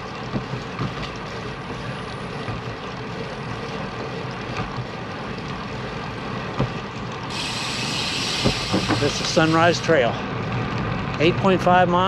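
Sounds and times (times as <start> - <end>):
bike tyres rolling on concrete: 0.0 - 12.0.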